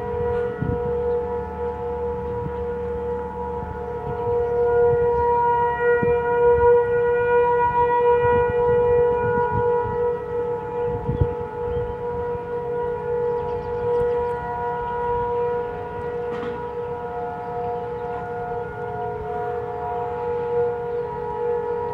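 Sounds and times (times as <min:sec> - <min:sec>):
tornado siren steady tone: 0:00.0 - 0:21.9.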